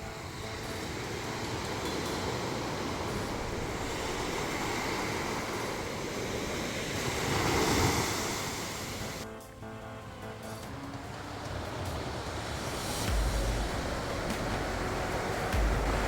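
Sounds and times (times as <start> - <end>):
sea surf washing onto beach: 0.0 - 9.3, 10.1 - 16.0.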